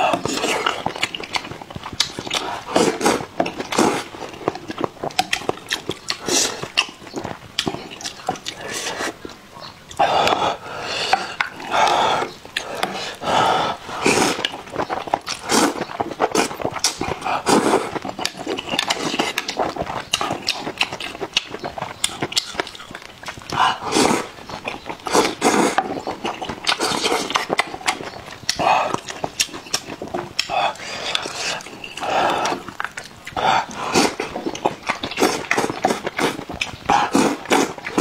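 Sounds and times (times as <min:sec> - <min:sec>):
slurping noodles: 0:00.0 - 0:09.3, 0:09.9 - 0:38.0
wet chewing and smacking: 0:00.0 - 0:38.0.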